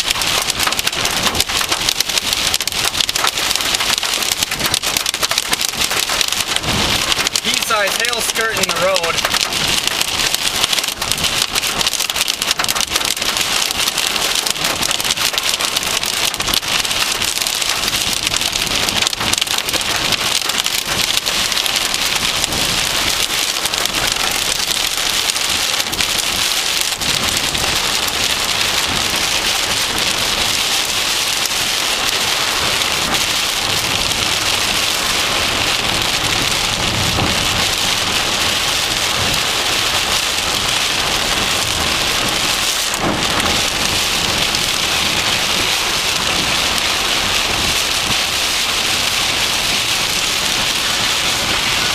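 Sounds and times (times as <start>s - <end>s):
rain and hail pelting a car: 0.0s - 51.9s.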